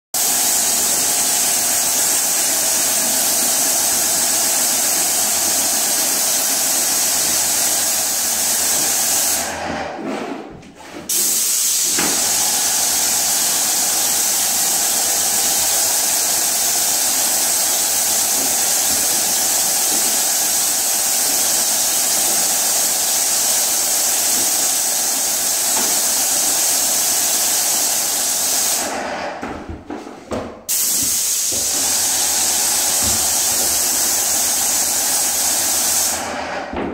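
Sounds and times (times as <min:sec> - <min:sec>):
paint spray gun hissing: 0:00.2 - 0:09.5, 0:11.1 - 0:29.0, 0:30.7 - 0:36.3.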